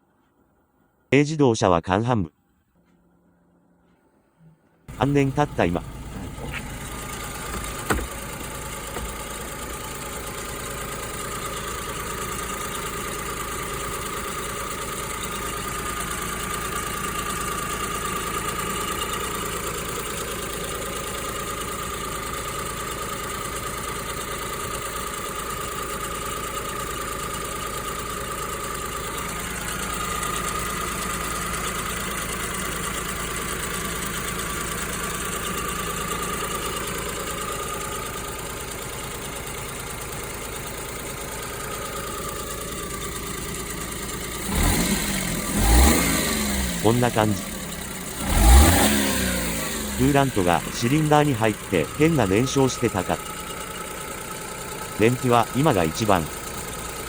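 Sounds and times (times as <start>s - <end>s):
car engine idling: 4.6s - 57.0s
engine knock: 4.9s - 57.0s.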